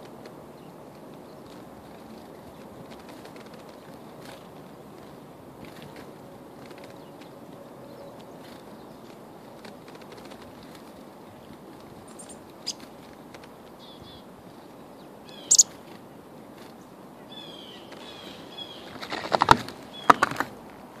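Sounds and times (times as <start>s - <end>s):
chickadees calling: 0.0s - 20.5s.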